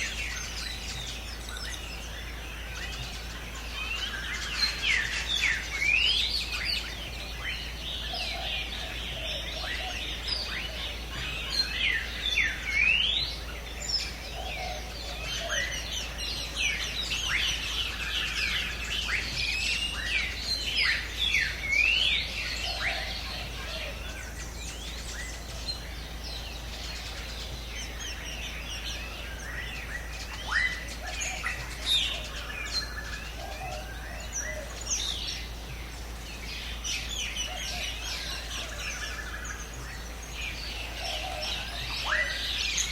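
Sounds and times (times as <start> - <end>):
birds chirping in chorus: 0.0 - 42.9
lower warbled bird calls: 0.0 - 42.9.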